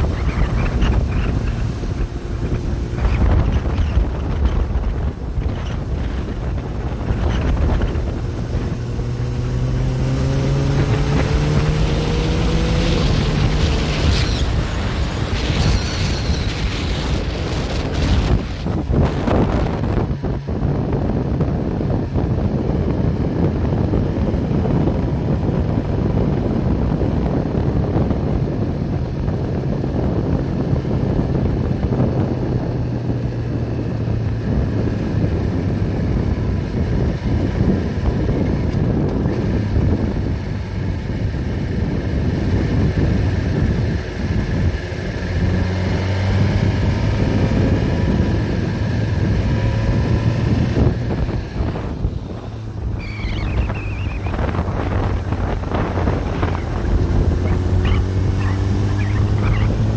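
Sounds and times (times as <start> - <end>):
engine humming: 0.0 - 59.9
wind buffeting microphone: 0.0 - 59.9.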